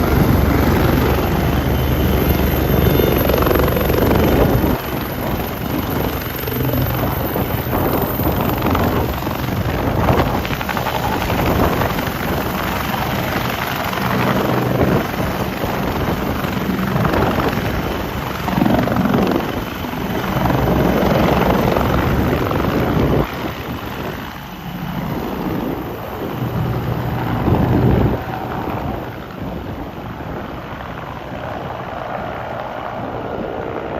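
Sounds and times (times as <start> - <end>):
helicopter taking off: 0.0 - 33.9.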